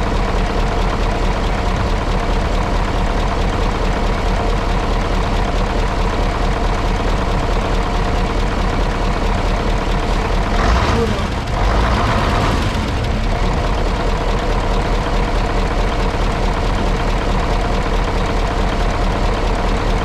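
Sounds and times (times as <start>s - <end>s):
diesel coach engine idling: 0.0s - 20.0s.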